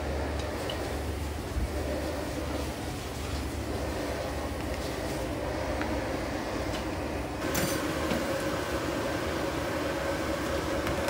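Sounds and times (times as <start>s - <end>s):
kitchen rumble and hum: 0.0s - 11.0s.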